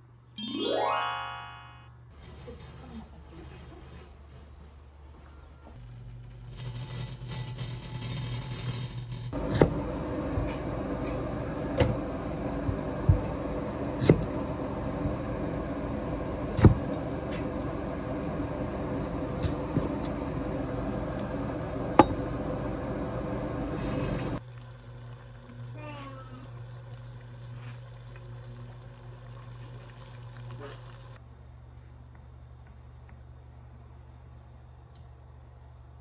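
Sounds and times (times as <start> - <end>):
steady appliance hum: 2.1 - 36.0.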